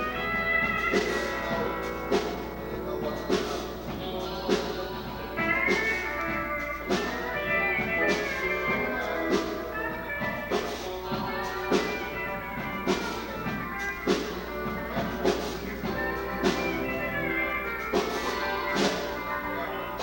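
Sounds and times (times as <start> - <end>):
live band playing: 0.0 - 20.0.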